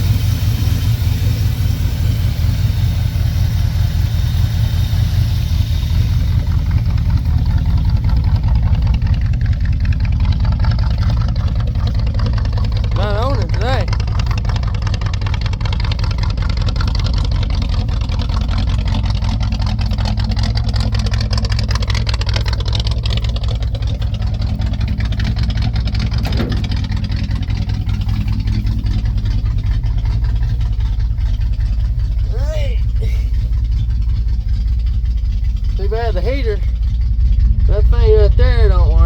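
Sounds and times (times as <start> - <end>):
pickup truck engine idling: 0.0 - 39.0.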